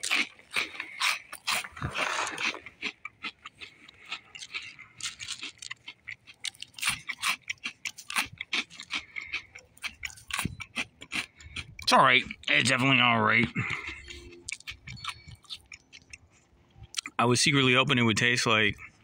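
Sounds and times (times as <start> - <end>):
cereal crunching while chewed: 0.0 - 17.2.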